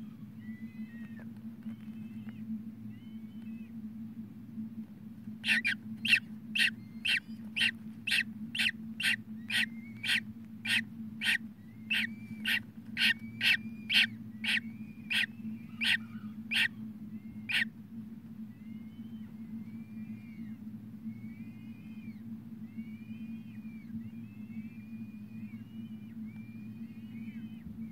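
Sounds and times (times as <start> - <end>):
steady low hum: 0.0 - 27.9
falcon chick peeping: 0.4 - 3.7, 5.4 - 17.7, 21.2 - 27.9.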